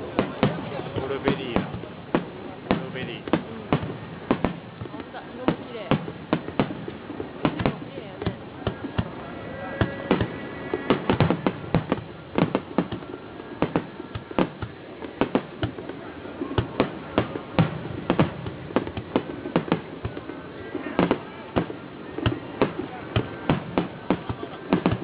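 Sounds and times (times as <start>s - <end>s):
fireworks exploding: 0.0s - 25.0s.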